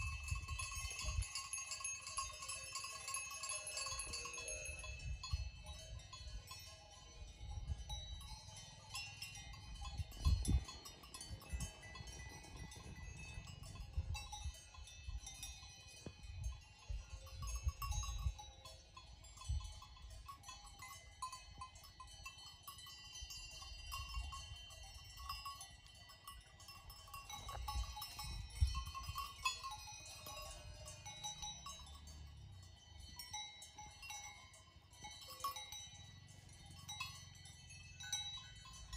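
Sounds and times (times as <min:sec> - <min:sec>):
cowbells clanking and ringing: 0:00.0 - 0:38.9.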